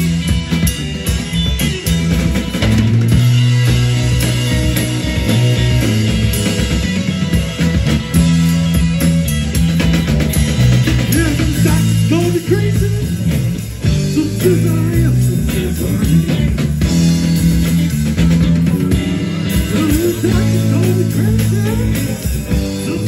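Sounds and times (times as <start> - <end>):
bending guitar lead line: 0.0 - 23.0
drum kit: 0.0 - 23.0
electric guitars: 0.0 - 23.0.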